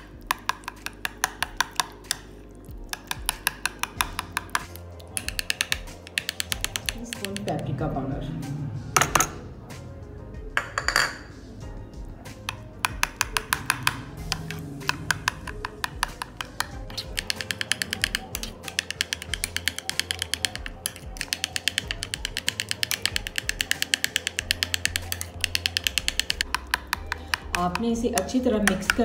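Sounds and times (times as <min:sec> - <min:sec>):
spoon clicking in ceramic bowl: 0:00.0 - 0:02.3, 0:02.9 - 0:07.6, 0:12.5 - 0:29.0.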